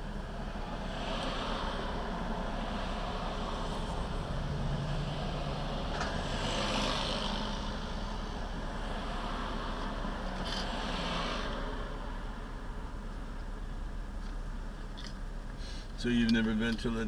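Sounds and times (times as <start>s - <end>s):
low engine hum: 0.0s - 17.0s
road and tyre noise: 0.0s - 17.0s.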